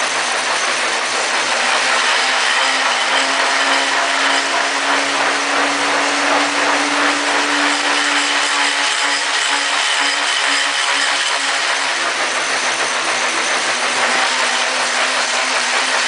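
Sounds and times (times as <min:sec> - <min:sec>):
rotating rig whirring: 0:00.1 - 0:16.0.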